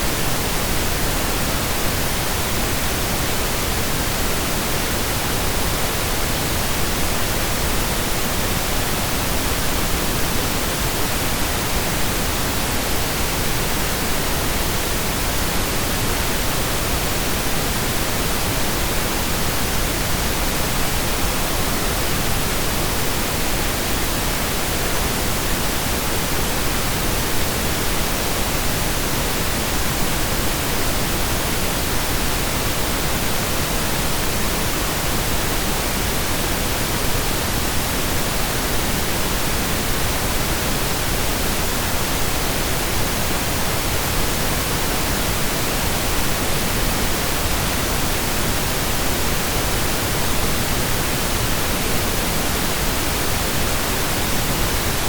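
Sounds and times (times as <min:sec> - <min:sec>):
pink noise hiss: 0:00.0 - 0:55.0.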